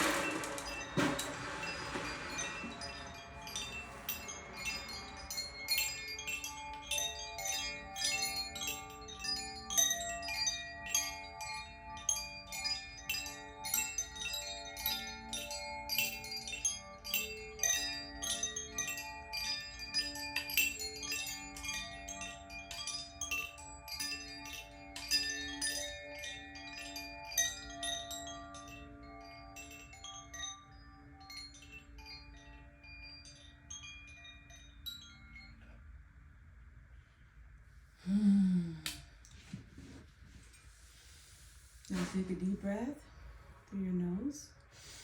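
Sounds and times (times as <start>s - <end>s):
wind chimes ringing: 0.0s - 37.2s
low ringing tones: 0.0s - 38.8s.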